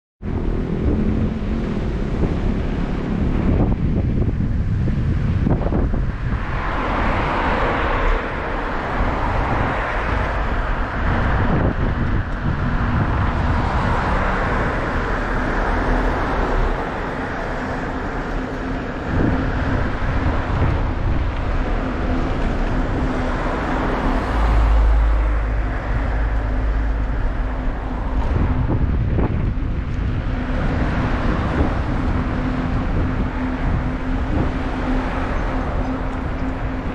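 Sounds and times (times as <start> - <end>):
bicycle road noise: 0.2 - 36.9
low wind rumble: 0.2 - 36.9
vehicles passing: 0.2 - 36.9
wind noise on microphone: 0.2 - 36.9.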